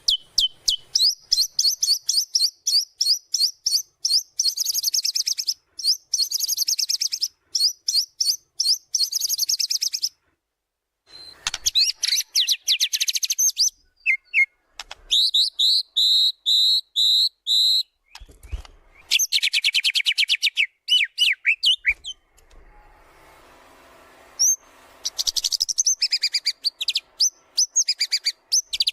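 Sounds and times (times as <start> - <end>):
high whistled bird notes: 0.0 - 10.1, 11.1 - 23.4, 24.3 - 28.9
songbird singing trills: 0.0 - 10.1, 11.1 - 22.2, 24.4 - 28.9.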